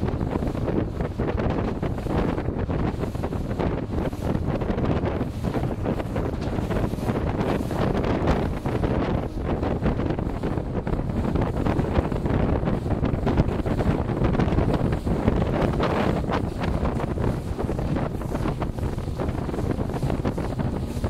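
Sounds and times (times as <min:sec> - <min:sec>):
boat running noise: 0:00.0 - 0:21.0
rush of water: 0:00.0 - 0:21.0
wind buffeting microphone: 0:00.0 - 0:21.0.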